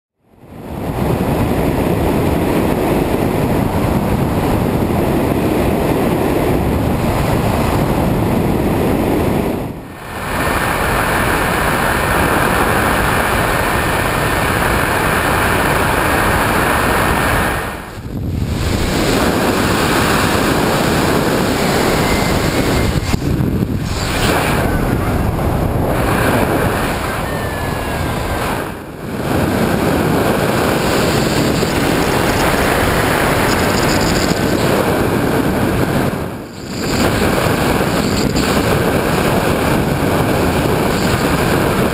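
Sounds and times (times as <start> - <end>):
wind noise on microphone: 0.3 - 41.9.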